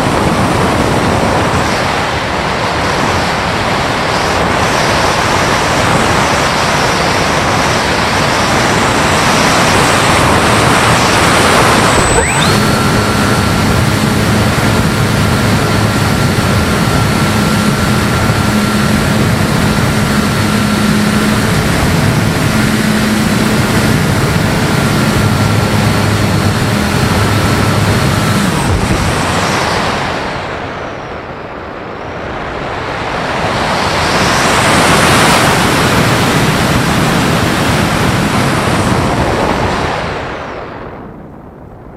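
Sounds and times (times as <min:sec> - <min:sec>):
steady motor whine: 0:00.0 - 0:41.2.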